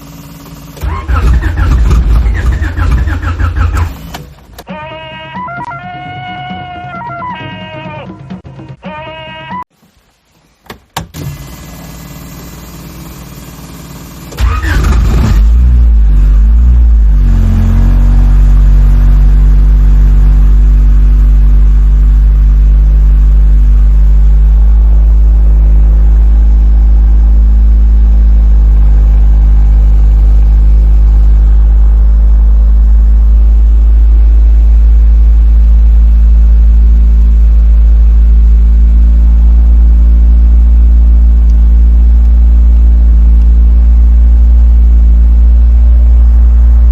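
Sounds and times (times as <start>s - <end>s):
car engine starting and idling: 0.0s - 6.8s, 10.7s - 46.9s.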